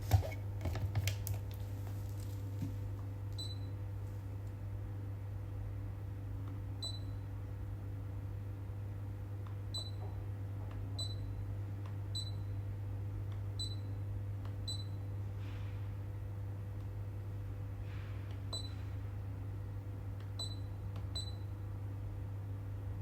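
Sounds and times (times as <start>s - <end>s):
humidifier humming: 0.0s - 23.0s.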